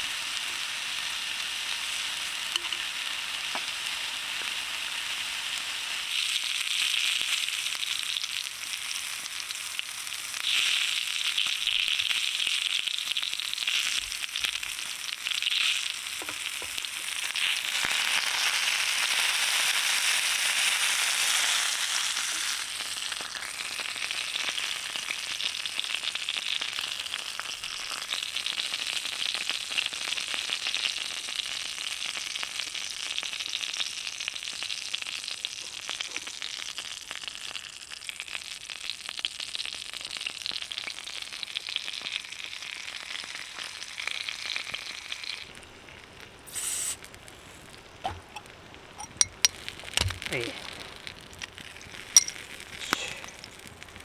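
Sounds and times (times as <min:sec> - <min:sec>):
meat sizzling over campfire: 0:00.0 - 0:54.0.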